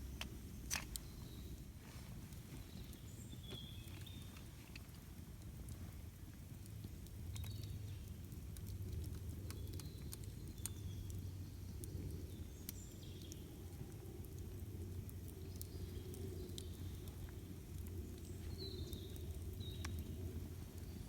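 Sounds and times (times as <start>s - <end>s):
campfire crackling and popping: 0.0s - 21.0s
low steady rumble: 0.0s - 21.0s.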